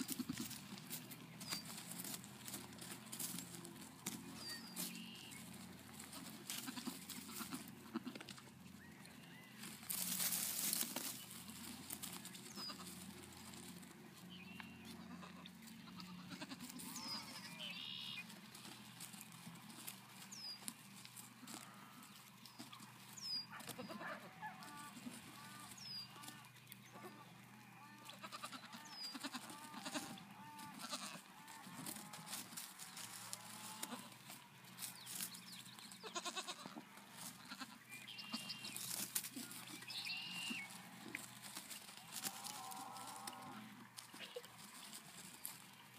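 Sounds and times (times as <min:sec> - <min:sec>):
goat kids bleating: 0:00.0 - 0:00.8, 0:01.5 - 0:08.4, 0:09.3 - 0:13.9, 0:14.6 - 0:19.2, 0:23.5 - 0:34.3, 0:35.9 - 0:45.6.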